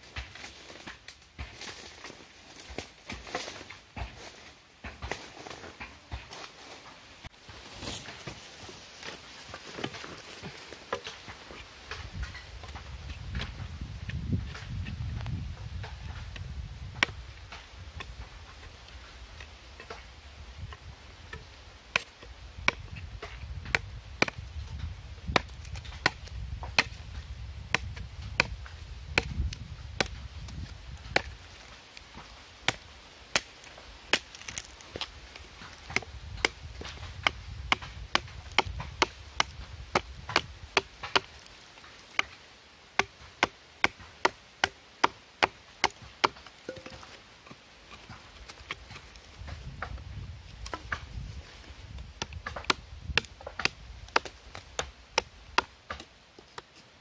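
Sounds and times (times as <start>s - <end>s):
machete chopping bamboo: 7.8s - 15.2s, 15.8s - 18.8s, 19.4s - 42.4s, 43.0s - 50.0s, 50.6s - 51.2s, 51.9s - 56.8s.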